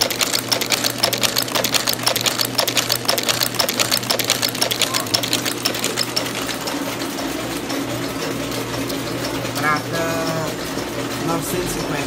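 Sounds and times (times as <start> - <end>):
rapid mechanical clatter: 0.0 - 12.0
steady motor hum: 0.0 - 12.0.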